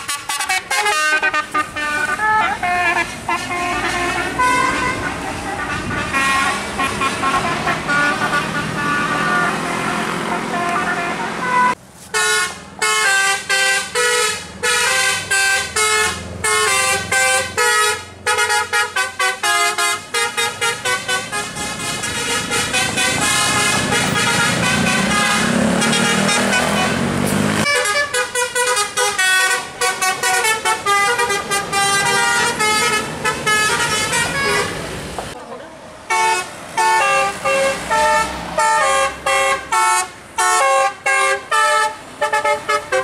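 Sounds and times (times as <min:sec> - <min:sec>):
bus musical horn tunes: 0:00.0 - 0:34.9, 0:36.1 - 0:43.0
bus engine revving: 0:00.0 - 0:43.0.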